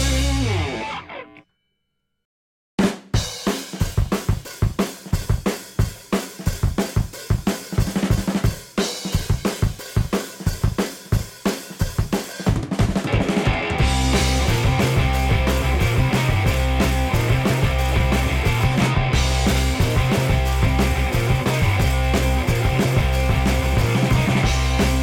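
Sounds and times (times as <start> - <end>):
fast rock drum beat: 0.0 - 0.7, 2.8 - 25.0.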